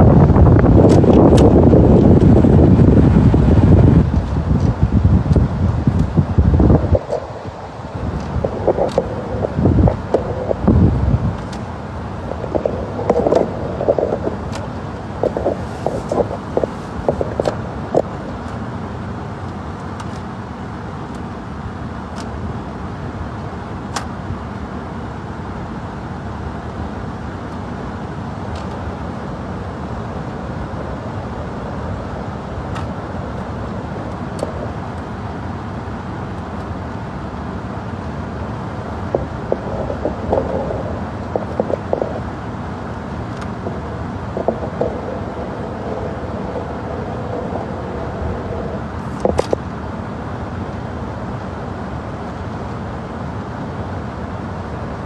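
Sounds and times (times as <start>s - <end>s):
low rumbling noise: 0.0s - 55.0s.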